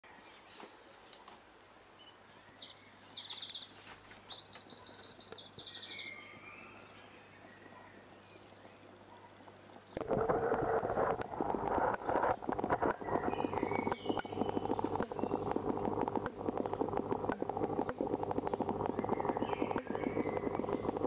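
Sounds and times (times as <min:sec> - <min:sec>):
small birds chirping and trilling: 0:00.1 - 0:10.0, 0:10.7 - 0:21.0
faint steady low hum: 0:00.1 - 0:21.0.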